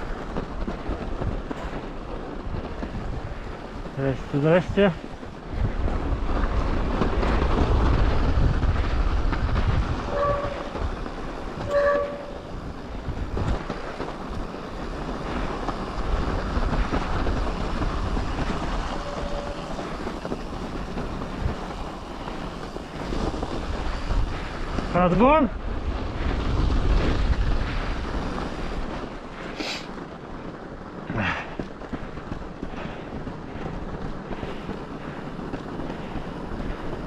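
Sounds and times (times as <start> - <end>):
bike tyres rolling on snow: 0.0 - 37.0
wind buffeting the microphone: 0.0 - 37.0.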